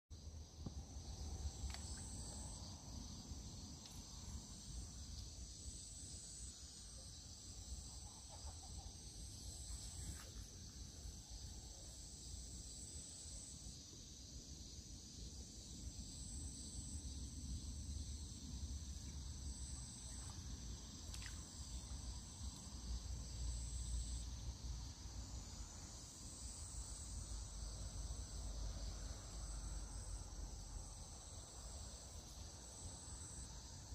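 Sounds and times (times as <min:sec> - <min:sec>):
insects chirring: 0:00.2 - 0:33.9.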